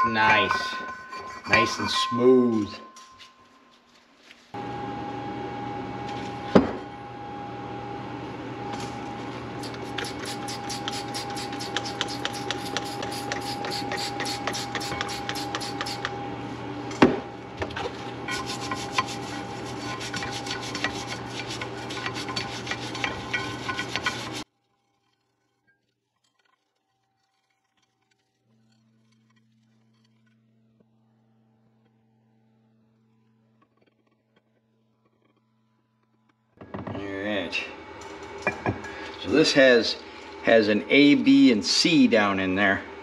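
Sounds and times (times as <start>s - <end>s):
steady hum: 4.5s - 24.5s, 28.4s - 43.0s.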